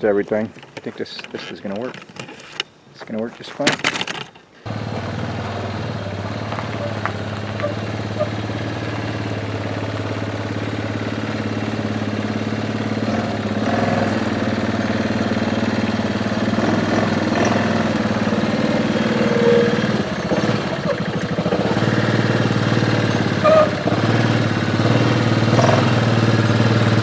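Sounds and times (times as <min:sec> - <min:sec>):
atv engine running: 0:04.6 - 0:27.0.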